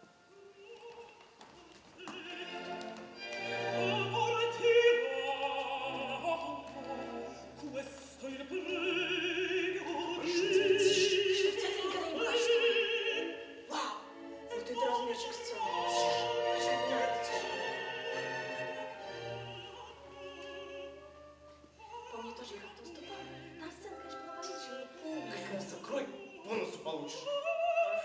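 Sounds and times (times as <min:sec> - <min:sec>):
woman singing opera: 0:00.0 - 0:28.0
orchestral accompaniment: 0:02.0 - 0:28.0.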